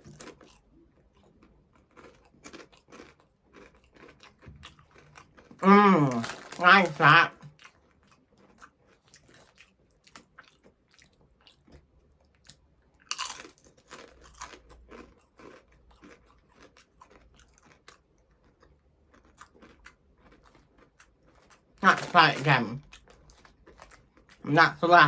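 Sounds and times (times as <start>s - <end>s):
person chewing crisps: 0.0s - 25.0s.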